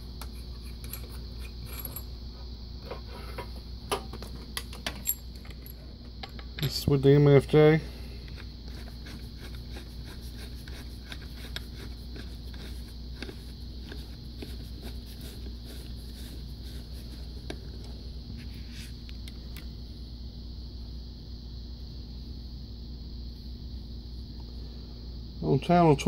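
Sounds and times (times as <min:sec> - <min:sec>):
faint high whine: 0:00.0 - 0:26.0
steady low hum: 0:00.0 - 0:26.0.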